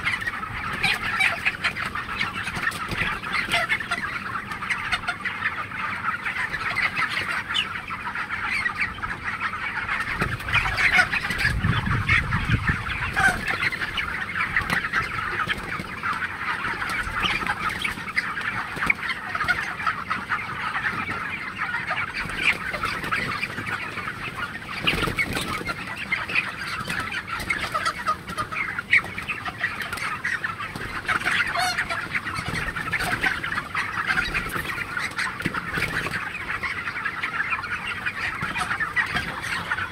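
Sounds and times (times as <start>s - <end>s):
chickens clucking and cheeping: 0.0s - 39.9s.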